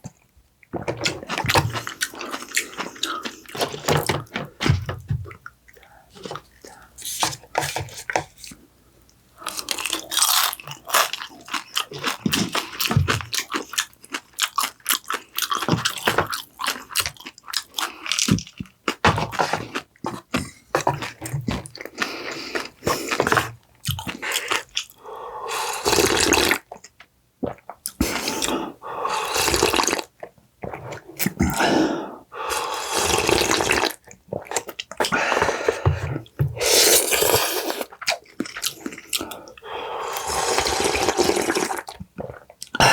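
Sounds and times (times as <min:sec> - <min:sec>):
crunching and wet chewing: 0:00.0 - 0:08.6, 0:09.4 - 0:25.1, 0:32.6 - 0:42.9.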